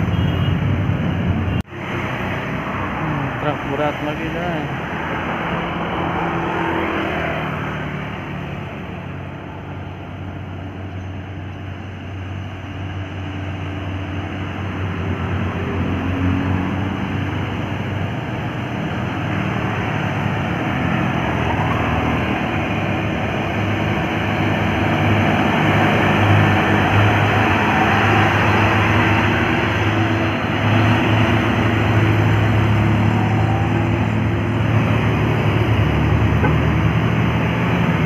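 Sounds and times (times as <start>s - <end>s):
road noise: 0.0s - 38.0s
truck diesel engine drone: 0.0s - 38.0s.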